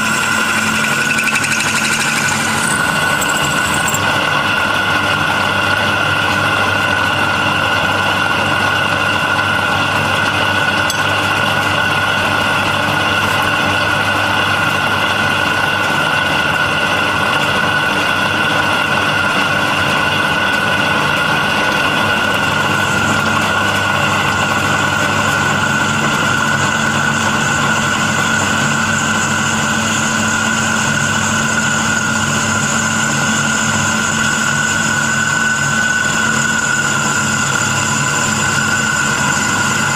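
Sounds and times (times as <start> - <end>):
drill press whining: 0.0 - 39.9.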